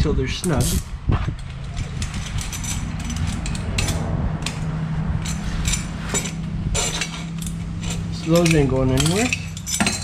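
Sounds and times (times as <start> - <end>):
ratchet wrench clicking: 0.4 - 10.0.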